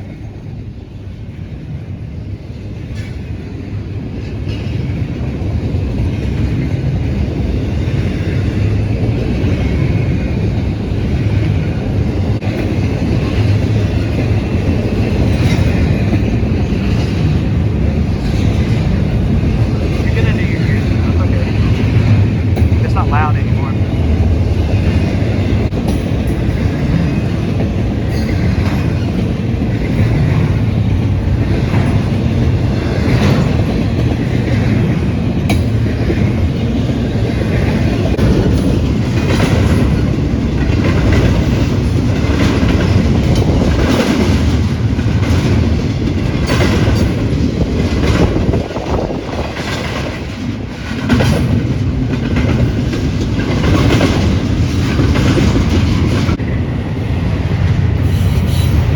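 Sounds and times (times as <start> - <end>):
train rumbling: 0.0 - 58.9
wheels clacking over rail joints: 2.4 - 22.8, 23.8 - 56.4.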